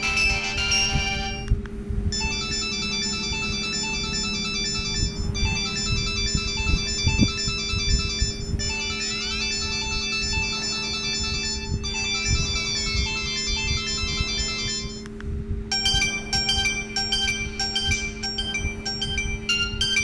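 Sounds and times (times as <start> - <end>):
mobile phone ringtone melody: 0.0 - 1.5, 2.1 - 15.1, 15.7 - 20.0
steady low hum: 0.0 - 20.0.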